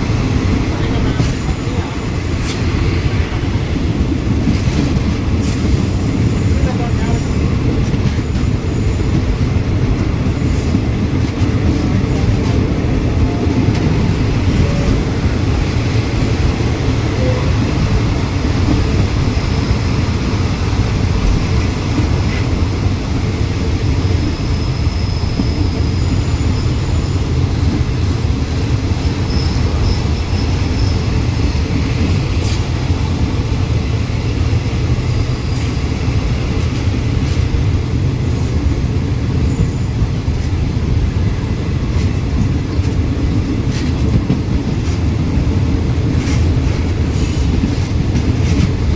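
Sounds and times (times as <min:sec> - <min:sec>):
train wheels running over rails: 0:00.0 - 0:48.9.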